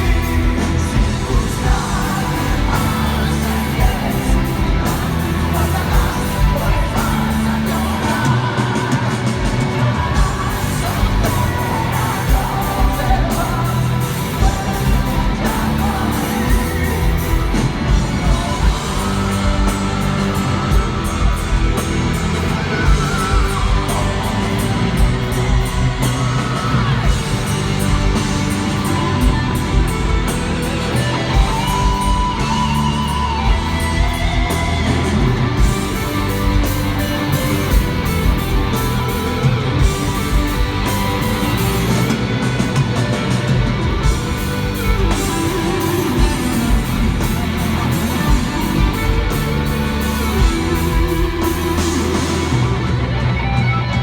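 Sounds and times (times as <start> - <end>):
electric guitars: 0.0 - 54.0
heavy metal band playing live: 0.0 - 54.0
steady drum beat: 0.0 - 54.0.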